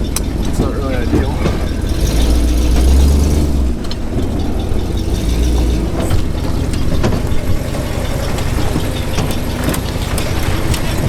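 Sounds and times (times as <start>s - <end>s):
engine idling with light knocks: 0.0s - 11.0s.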